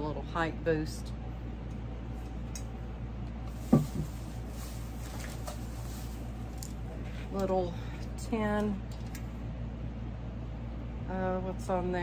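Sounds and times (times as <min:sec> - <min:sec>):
air conditioner and fans humming: 0:00.0 - 0:12.0.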